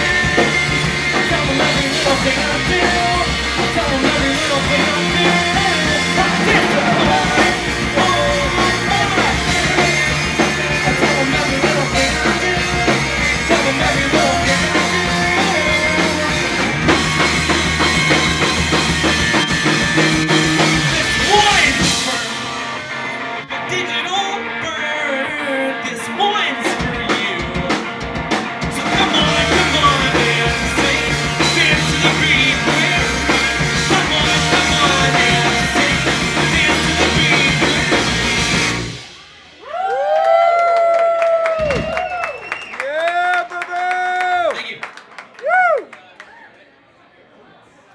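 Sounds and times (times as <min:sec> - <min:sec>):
live rock band playing: 0:00.0 - 0:39.6.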